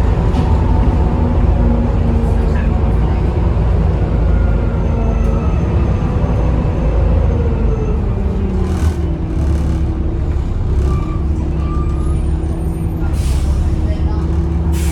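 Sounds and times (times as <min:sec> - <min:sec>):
bus engine low drone: 0:00.0 - 0:14.9.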